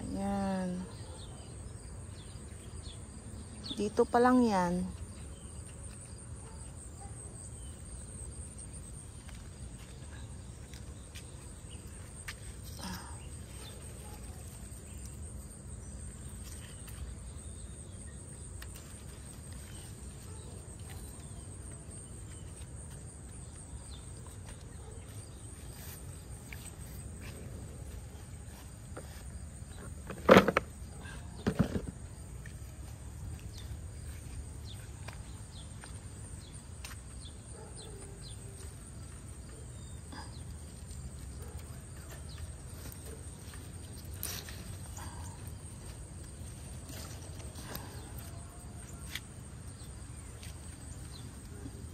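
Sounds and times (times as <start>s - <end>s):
insects droning: 0.0s - 51.9s.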